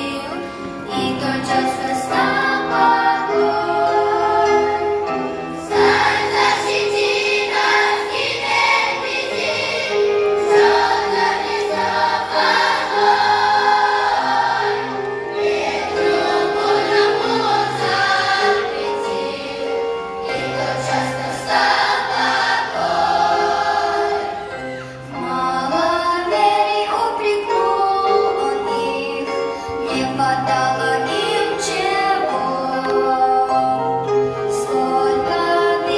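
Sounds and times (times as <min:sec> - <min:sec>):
children's choir singing a hymn: 0:00.0 - 0:35.9.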